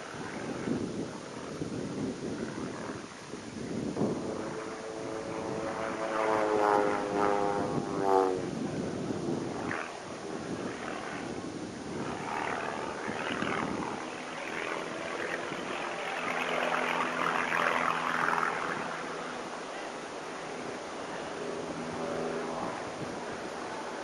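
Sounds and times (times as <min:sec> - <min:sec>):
propeller airplane engine droning: 0:00.0 - 0:24.0.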